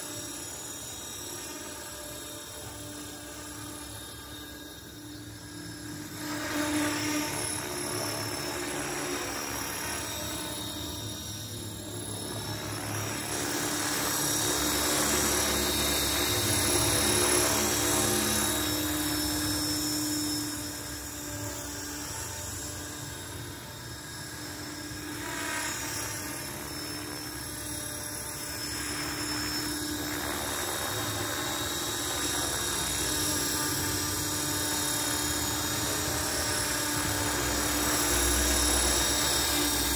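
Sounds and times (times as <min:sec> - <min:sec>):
high motor whine: 0:00.0 - 0:39.9
rotor blades whirring: 0:00.0 - 0:39.9.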